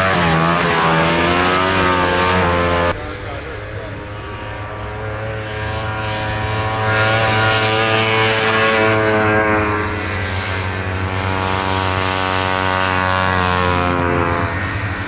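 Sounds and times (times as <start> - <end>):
snowmobile engines at high revs: 0.0 - 15.0.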